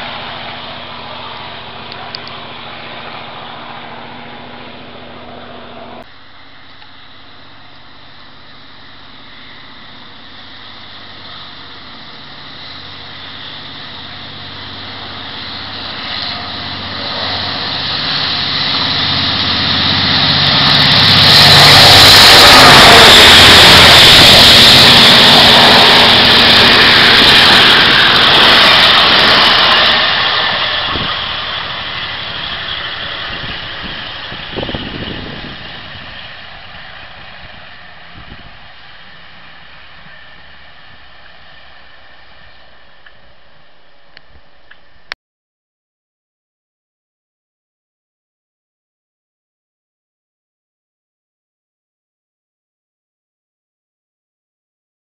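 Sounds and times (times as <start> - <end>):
train wheels on rails: 0.0 - 45.0
diesel locomotive engine: 0.0 - 45.2.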